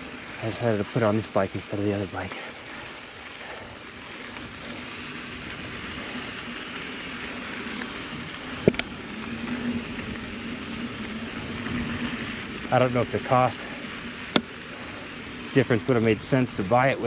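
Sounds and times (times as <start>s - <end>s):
bike tyres rushing on dirt trail: 0.0s - 17.0s.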